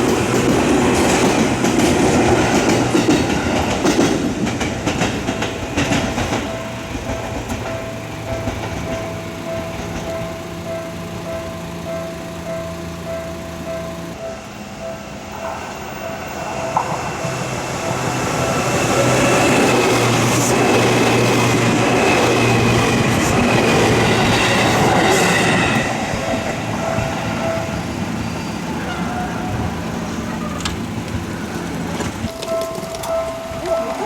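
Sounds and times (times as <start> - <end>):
level crossing warning bell: 0.0 - 34.0
train wheels clacking over joints: 0.0 - 34.0.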